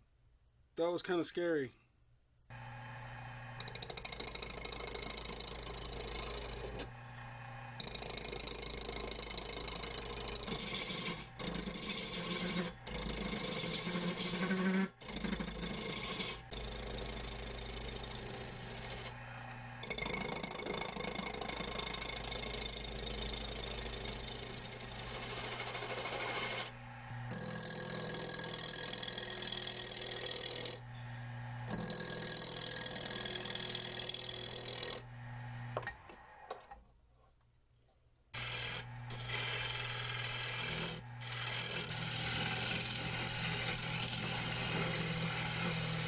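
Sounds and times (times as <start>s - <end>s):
lathe motor hum: 2.5s - 35.9s, 38.4s - 46.0s
tool scraping spinning wood: 3.6s - 7.0s, 7.8s - 35.1s, 38.4s - 46.0s.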